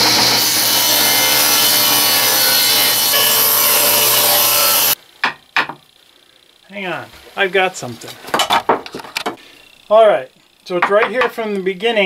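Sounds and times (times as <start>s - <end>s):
motor hum: 0.0s - 10.8s.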